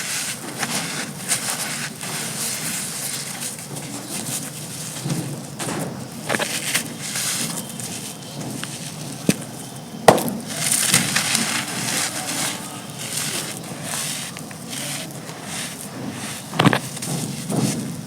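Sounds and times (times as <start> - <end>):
gritty chunks crunching: 0.0 - 18.0.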